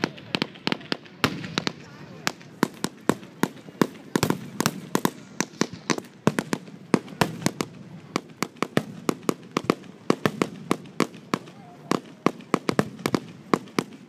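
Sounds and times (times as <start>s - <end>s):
fireworks popping: 0.0s - 14.0s.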